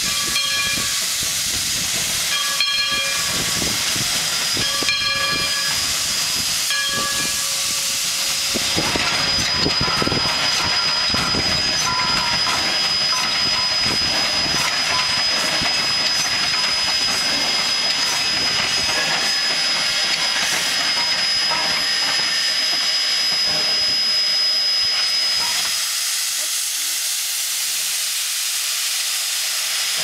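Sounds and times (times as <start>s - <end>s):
steam hissing: 0.0s - 30.0s
steam locomotive rumbling: 0.0s - 30.0s.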